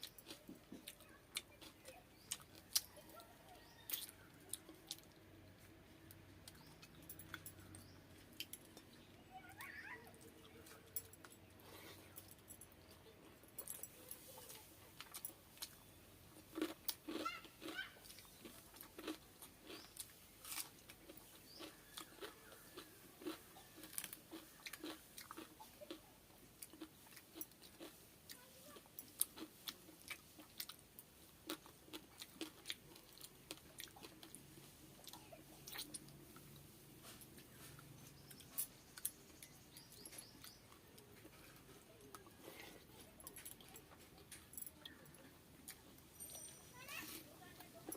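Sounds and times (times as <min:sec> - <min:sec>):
person chewing crunchy food: 0:00.0 - 0:08.9, 0:15.0 - 0:46.0.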